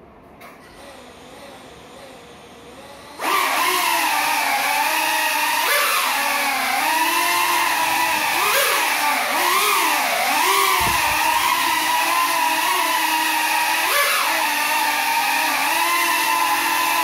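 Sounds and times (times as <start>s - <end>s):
quadcopter motors whining: 0.8s - 17.0s.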